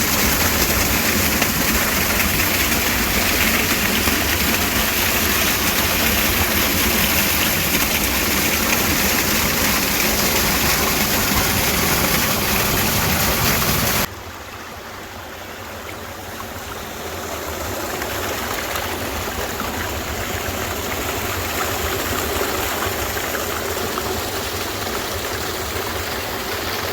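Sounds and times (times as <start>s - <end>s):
small waterfall and stream rushing: 0.0s - 26.9s.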